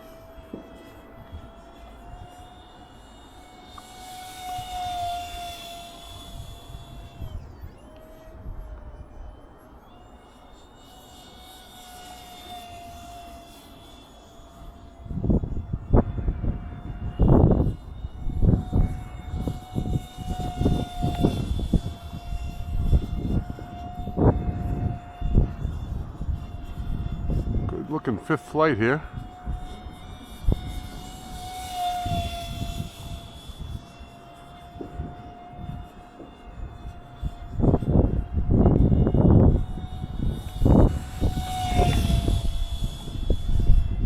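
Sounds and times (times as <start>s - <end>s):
wind buffeting microphone: 0.0s - 9.6s, 10.8s - 44.0s
model plane motor whining: 0.0s - 44.0s.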